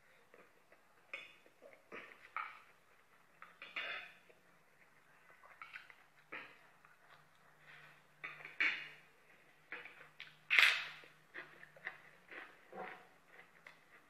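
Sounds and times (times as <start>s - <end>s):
person chewing and lip-smacking: 0.3s - 14.0s.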